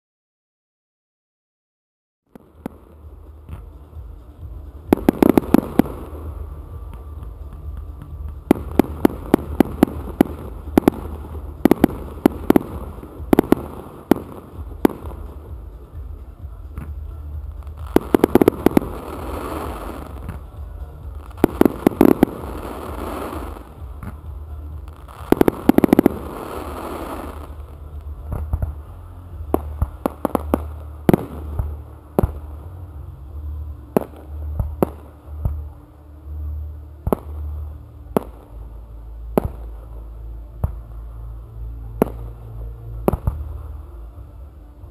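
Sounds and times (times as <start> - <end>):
crackling firework stars: 2.3 - 44.9.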